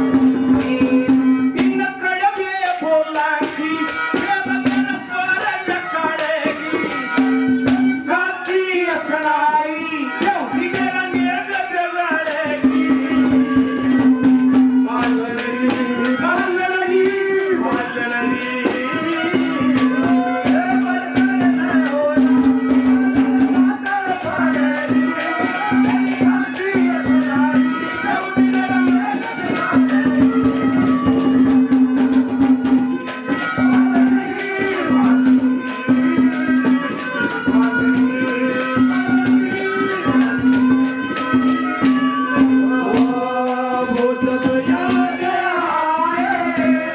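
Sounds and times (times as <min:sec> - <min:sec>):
hand drum rhythm: 0:00.0 - 0:46.9.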